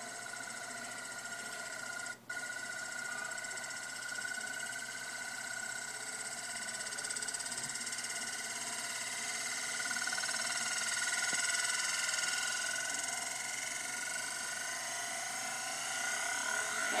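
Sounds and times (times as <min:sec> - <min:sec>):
metal disk spinning ringing whirr: 0:00.0 - 0:17.0.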